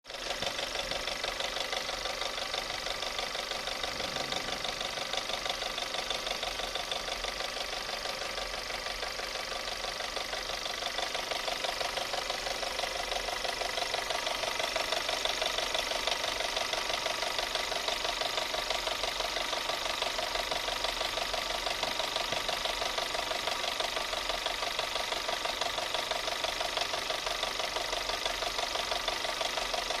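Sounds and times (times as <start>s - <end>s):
engine knocking: 0.1s - 30.0s.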